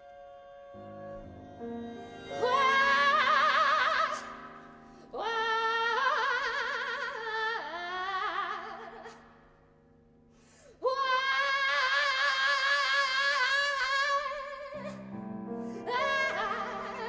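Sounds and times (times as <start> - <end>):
operatic soprano singing: 1.8 - 9.3, 10.8 - 17.0.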